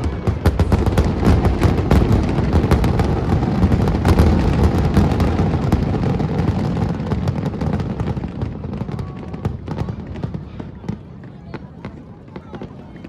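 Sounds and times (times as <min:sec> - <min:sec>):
firework bursts and crackles: 0:00.0 - 0:13.0.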